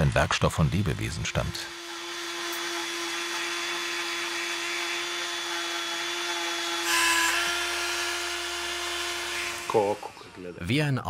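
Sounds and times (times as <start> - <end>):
rotary tool grinding bone: 0.0 - 10.6.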